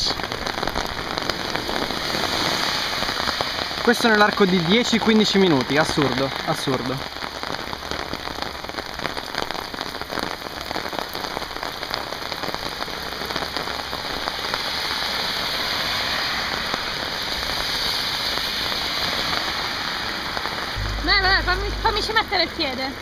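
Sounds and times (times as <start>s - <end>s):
torrential rain on wet street: 0.0s - 23.0s.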